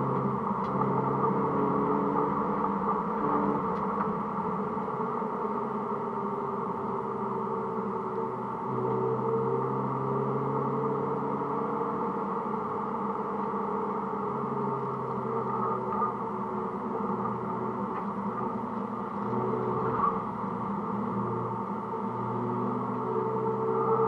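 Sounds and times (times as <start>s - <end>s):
car engine running at speed: 0.0s - 24.0s
road noise: 0.0s - 24.0s.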